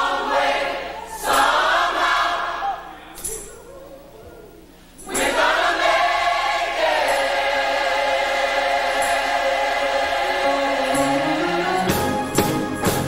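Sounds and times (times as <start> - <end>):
choir singing sustained chord: 0.0 - 2.6, 5.0 - 13.0.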